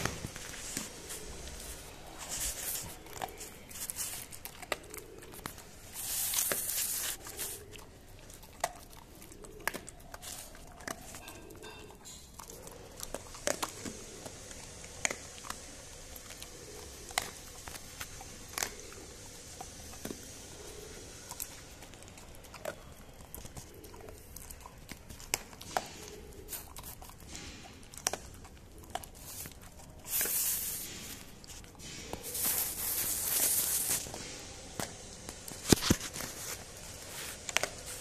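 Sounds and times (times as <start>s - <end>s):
dog chewing dry kibble: 0.0s - 38.0s.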